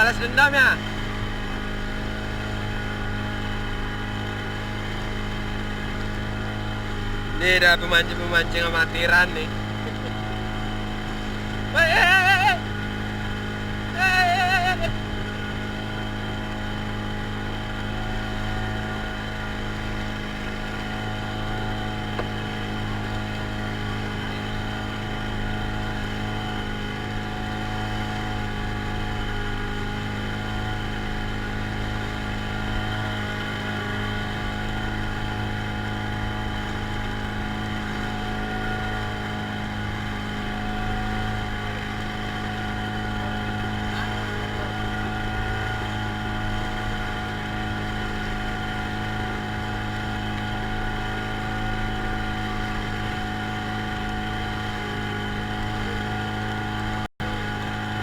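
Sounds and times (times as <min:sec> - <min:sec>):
small boat engine droning: 0:00.0 - 0:58.0.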